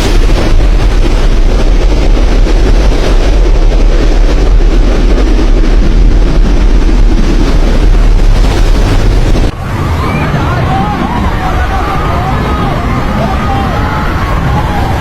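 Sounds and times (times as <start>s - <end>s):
strong wind roaring on microphone: 0.0s - 15.0s.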